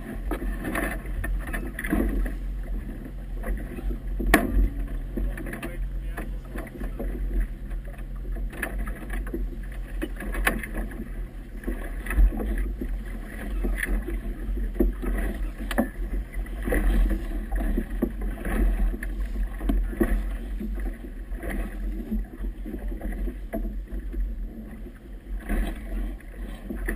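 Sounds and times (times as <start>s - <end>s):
low steady hum: 0.0s - 26.9s
water slapping against boat hull: 0.0s - 26.9s.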